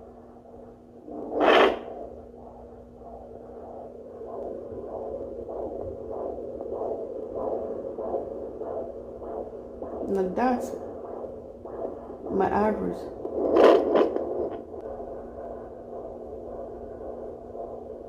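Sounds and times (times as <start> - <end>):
pulsing heartbeat whoosh: 0.0 - 18.0.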